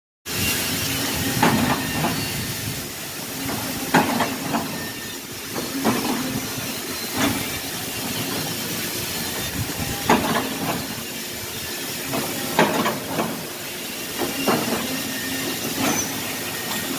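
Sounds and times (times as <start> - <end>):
factory machinery hissing: 0.3 - 16.9
machinery knocks and clanks: 1.1 - 2.3, 3.2 - 11.2, 12.0 - 16.9.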